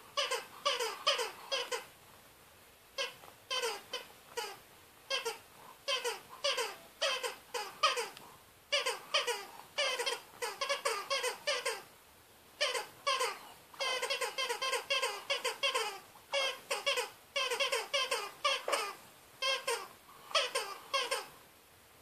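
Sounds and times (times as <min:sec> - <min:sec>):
dog toy squeaking: 0:00.2 - 0:01.9, 0:03.0 - 0:11.9, 0:12.6 - 0:21.3.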